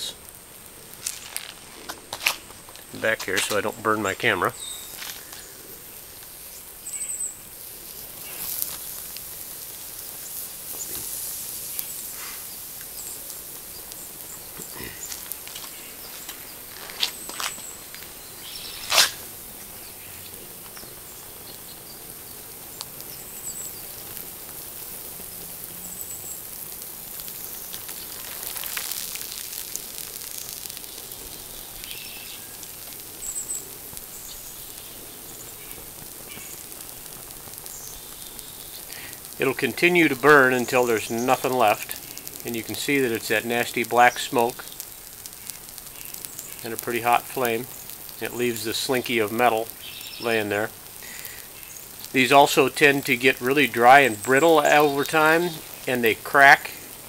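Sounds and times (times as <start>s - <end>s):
fire hissing and crackling: 0.0s - 57.0s
sharp pops: 0.0s - 57.0s.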